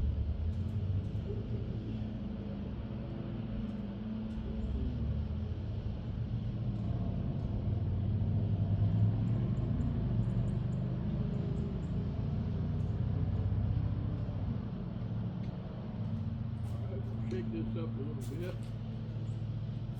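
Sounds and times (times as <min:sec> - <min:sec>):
low engine rumble: 0:00.0 - 0:19.9.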